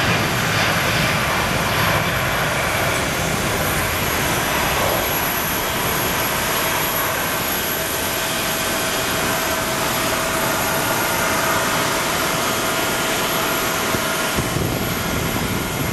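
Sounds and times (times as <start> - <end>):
jet engines roaring at takeoff: 0.0 - 15.9
thin steady engine whine: 0.0 - 15.9.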